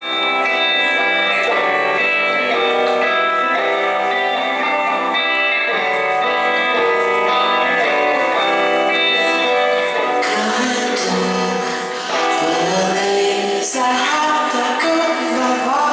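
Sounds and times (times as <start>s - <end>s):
rock band playing live: 0.0s - 15.9s.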